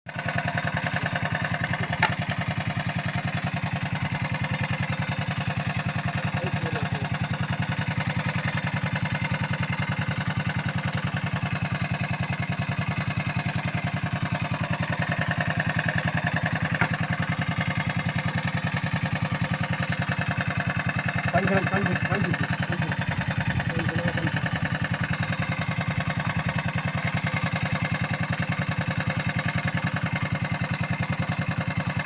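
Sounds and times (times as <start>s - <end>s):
small engine running: 0.1s - 32.0s.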